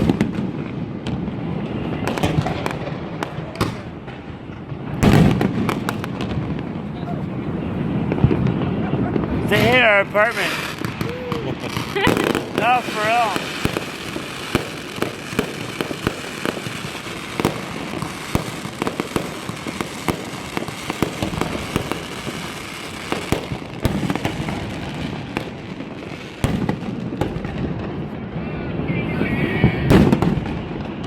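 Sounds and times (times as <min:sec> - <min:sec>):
heavy firework boom: 0:00.0 - 0:25.8, 0:26.4 - 0:31.0
fireworks bangs and crackles: 0:00.0 - 0:31.0.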